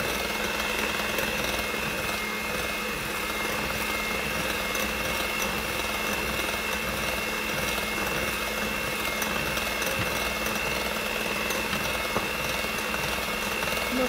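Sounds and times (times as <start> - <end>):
beaters whisking in glass bowl: 0.0 - 14.0
electric hand mixer whining: 0.0 - 14.0.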